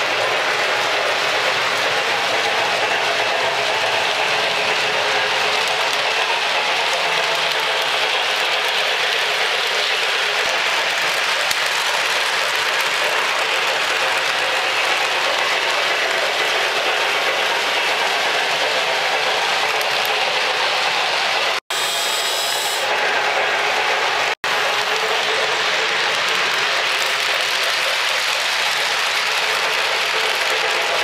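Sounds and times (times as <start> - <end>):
model trains rattling on track: 0.0 - 31.0.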